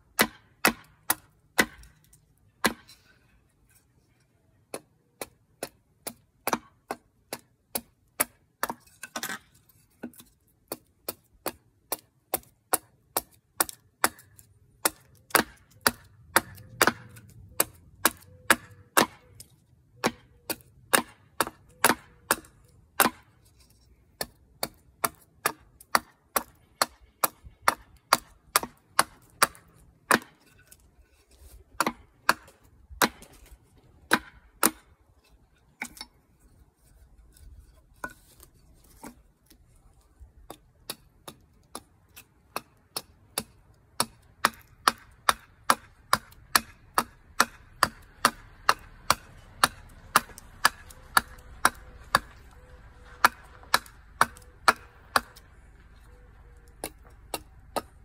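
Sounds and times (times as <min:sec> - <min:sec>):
hatchet chopping wood: 0:00.0 - 0:03.0, 0:04.6 - 0:36.2, 0:38.0 - 0:39.6, 0:40.4 - 0:55.8, 0:56.5 - 0:58.0.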